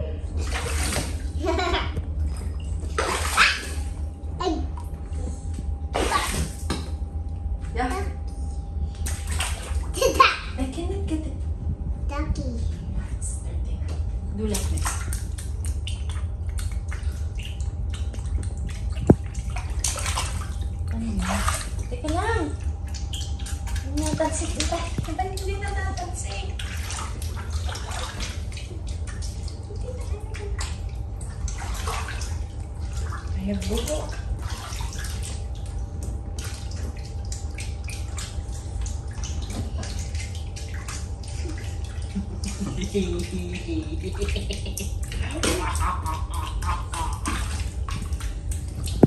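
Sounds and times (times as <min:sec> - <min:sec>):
low rumble: 0:00.0 - 0:49.0
water splashing and dripping: 0:00.4 - 0:04.0, 0:05.9 - 0:07.0, 0:08.9 - 0:10.6, 0:14.4 - 0:49.0.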